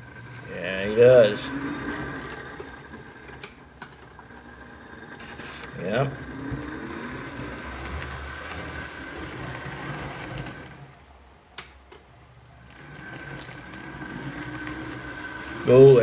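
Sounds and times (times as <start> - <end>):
wheels rumbling on rails: 0.0 - 11.1, 12.6 - 16.0
model train motor whine: 0.0 - 11.2, 12.6 - 16.0.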